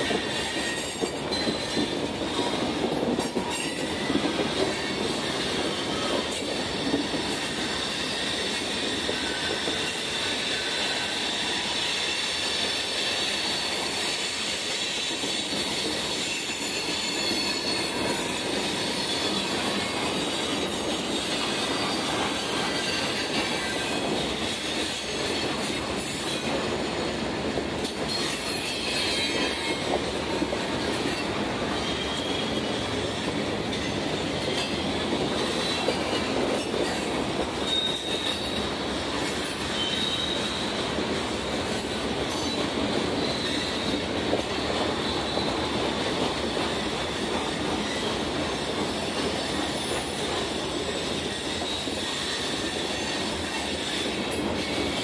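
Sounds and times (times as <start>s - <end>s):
freight train cars rolling: 0.0s - 55.0s
wheel squeals: 3.2s - 26.6s, 27.8s - 45.7s, 46.6s - 55.0s.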